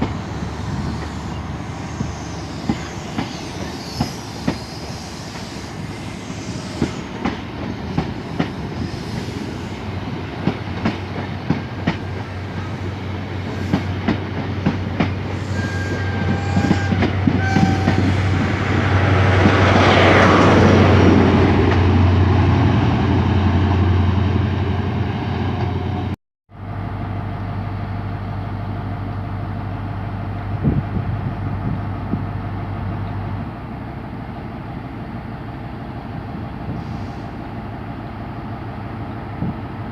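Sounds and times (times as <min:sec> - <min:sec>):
low train engine hum: 0:00.0 - 0:39.9.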